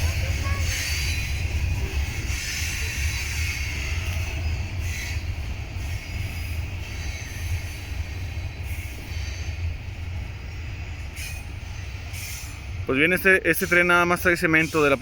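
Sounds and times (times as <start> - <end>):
faint high wheel squeal: 0.0 - 12.8
train wheels rumbling on rails: 0.0 - 15.0.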